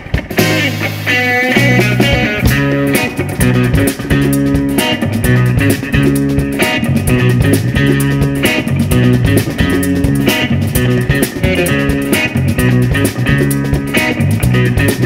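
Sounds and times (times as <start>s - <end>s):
bass guitar line: 0.0s - 15.0s
drum kit beat: 0.0s - 15.0s
electric guitar: 0.0s - 15.0s.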